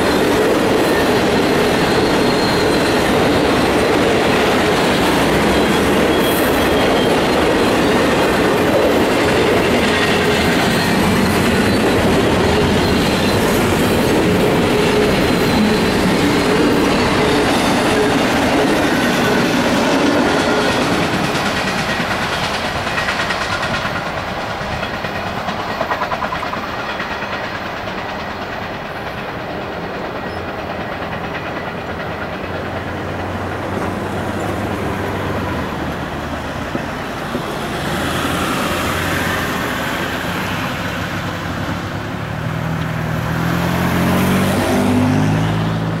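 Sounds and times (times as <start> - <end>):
steel wheels clacking over rail joints: 0.0 - 45.4.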